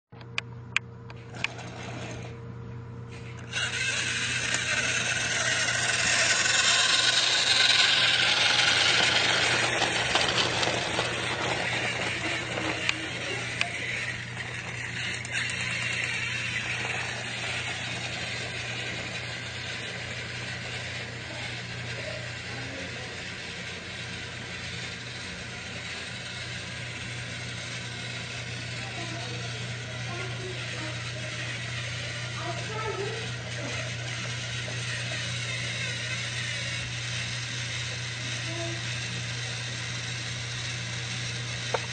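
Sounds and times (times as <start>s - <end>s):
constant low hum: 0.1s - 41.9s
toy train motor whirring: 1.1s - 2.4s, 3.1s - 41.9s.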